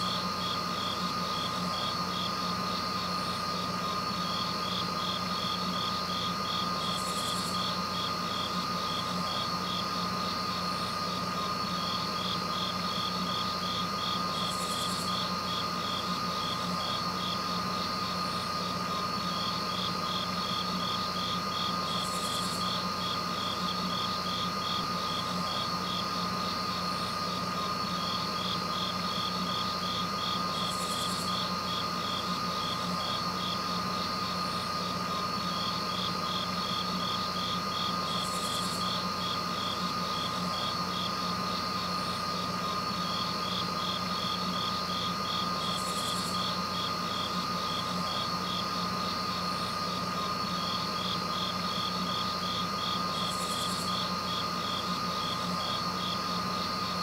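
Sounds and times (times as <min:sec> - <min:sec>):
crickets chirping: 0:00.0 - 0:57.0
steady hum and whine: 0:00.0 - 0:57.0.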